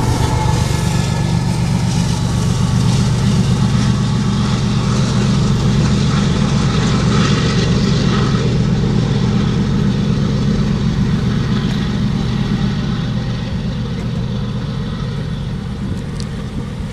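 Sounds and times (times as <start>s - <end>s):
diesel locomotive engine drone: 0.0s - 16.9s
train passing: 0.0s - 16.9s.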